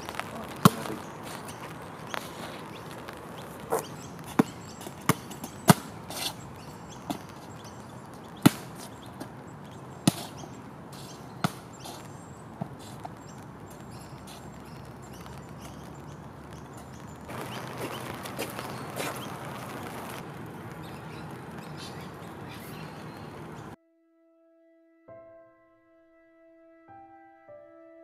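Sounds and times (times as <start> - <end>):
basketball bouncing on hard court: 0.6 - 23.6.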